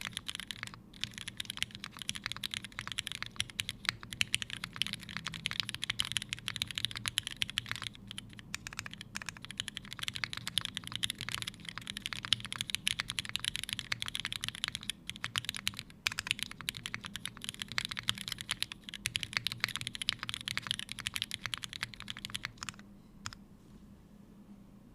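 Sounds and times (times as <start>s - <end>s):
mechanical keyboard typing: 0.0s - 23.4s.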